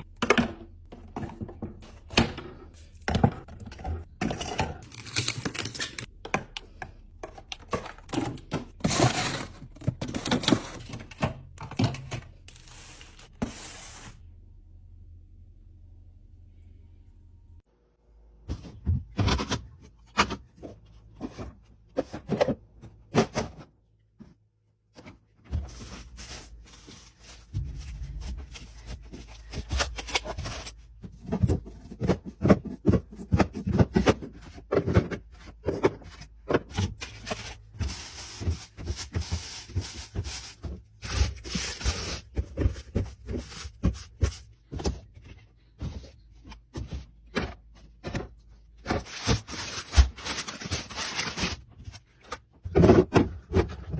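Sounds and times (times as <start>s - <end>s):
items clicking and knocking: 0.0s - 12.5s, 18.4s - 53.9s.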